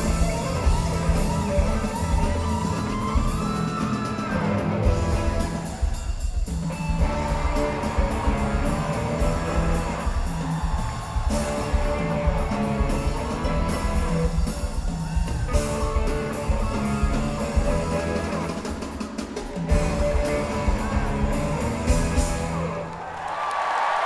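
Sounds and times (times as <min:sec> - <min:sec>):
rock band playing: 0:00.0 - 0:23.1.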